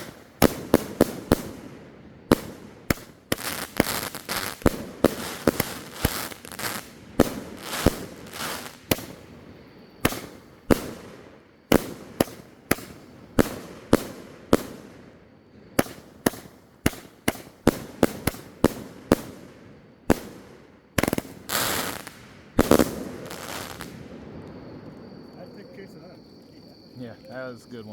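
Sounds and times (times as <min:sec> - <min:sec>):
fireworks cake firing bangs: 0:00.0 - 0:09.4, 0:10.0 - 0:24.2.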